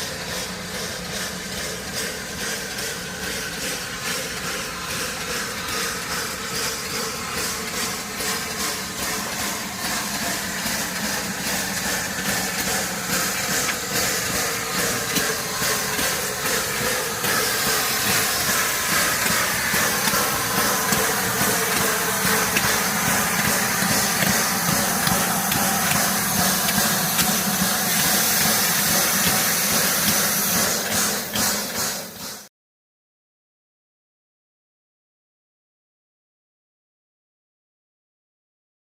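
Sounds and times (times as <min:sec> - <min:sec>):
steam rushing and hissing: 0:00.0 - 0:32.5
train running noise: 0:00.0 - 0:32.5.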